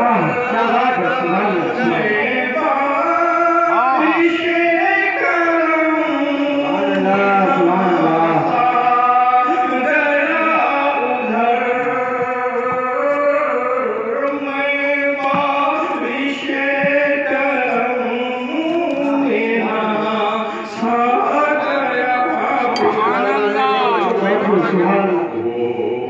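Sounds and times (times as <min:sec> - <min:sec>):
man chanting into microphone: 0:00.0 - 0:26.0.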